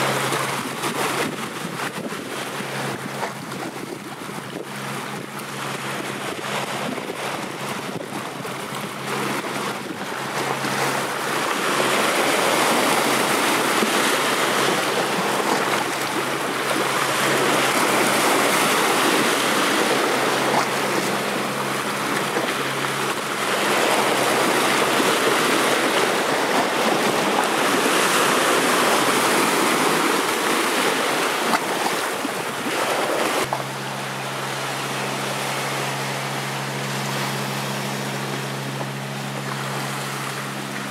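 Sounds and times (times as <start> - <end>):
waves washing over rocks: 0.0 - 40.9.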